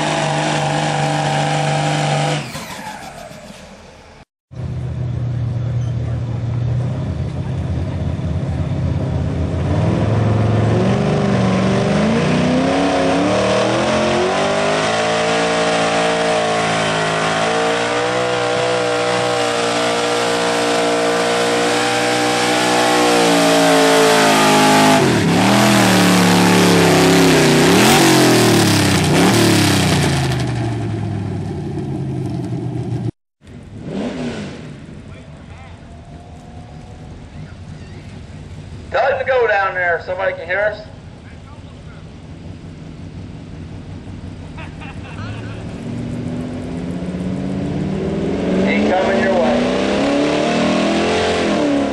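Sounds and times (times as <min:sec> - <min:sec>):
truck engine at full throttle: 0:00.0 - 0:51.9.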